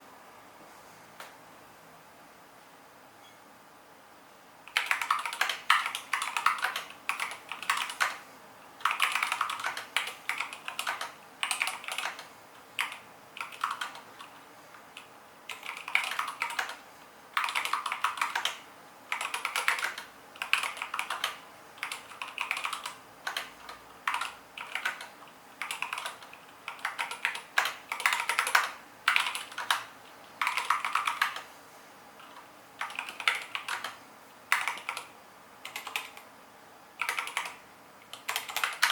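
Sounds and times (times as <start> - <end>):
mechanical keyboard typing: 4.7 - 8.2, 8.8 - 16.8, 17.4 - 31.5, 32.2 - 36.3, 37.0 - 38.9.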